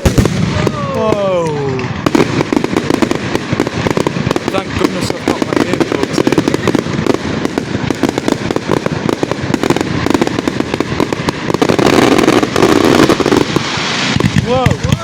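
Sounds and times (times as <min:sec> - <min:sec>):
fireworks bangs and crackle: 0:00.0 - 0:15.0.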